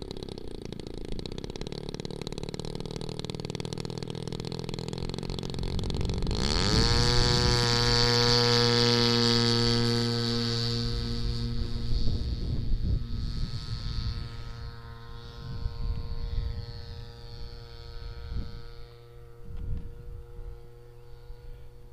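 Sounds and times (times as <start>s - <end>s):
model aircraft engine: 0.0s - 21.9s.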